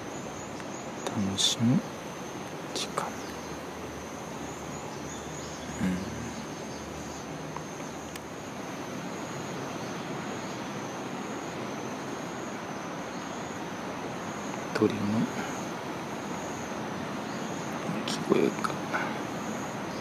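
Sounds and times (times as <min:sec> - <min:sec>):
high-pitched insect drone: 0:00.0 - 0:20.0
outdoor background hiss: 0:00.0 - 0:20.0.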